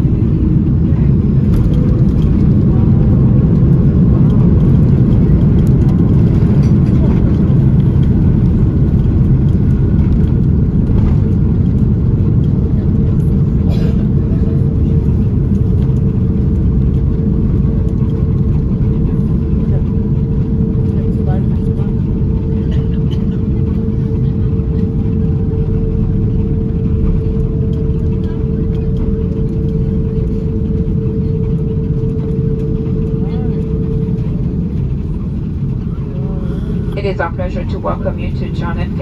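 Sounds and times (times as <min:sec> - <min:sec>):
aircraft cabin rumble: 0:00.0 - 0:39.0.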